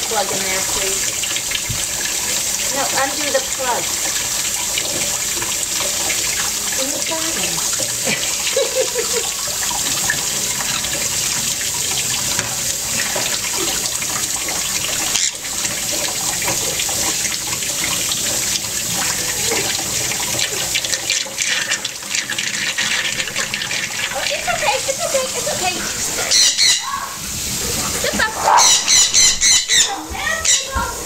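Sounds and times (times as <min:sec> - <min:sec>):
tap water running into sink: 0:00.0 - 0:31.0.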